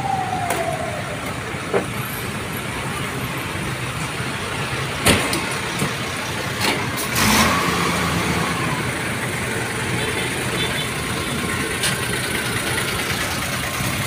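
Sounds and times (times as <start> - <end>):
fire truck engines idling: 0.0 - 14.0.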